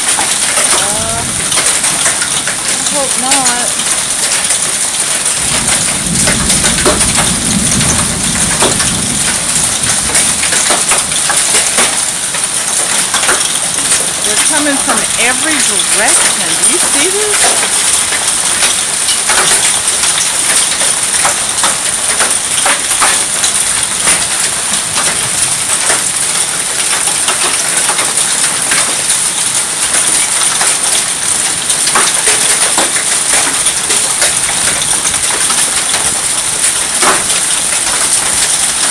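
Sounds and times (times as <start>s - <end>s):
hailstones clicking: 0.0s - 38.9s
heavy rain hissing: 0.0s - 38.9s.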